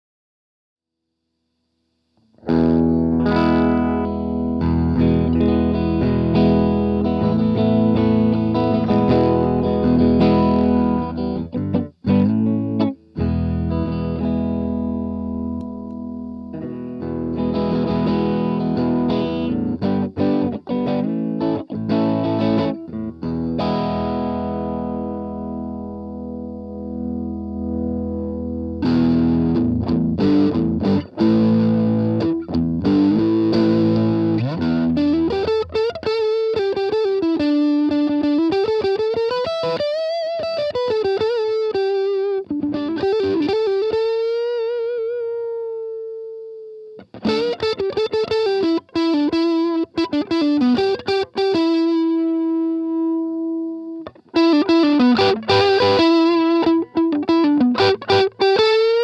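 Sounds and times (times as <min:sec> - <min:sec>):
overdriven electric guitar riffs: 0:02.1 - 0:59.0.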